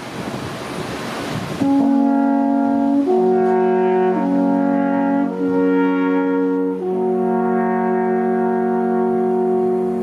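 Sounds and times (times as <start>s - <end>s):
alphorns playing in harmony: 1.6s - 10.0s.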